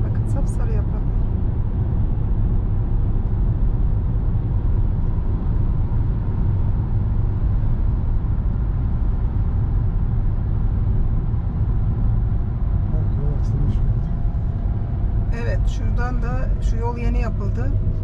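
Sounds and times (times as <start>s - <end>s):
car driving rumble: 0.0s - 18.0s.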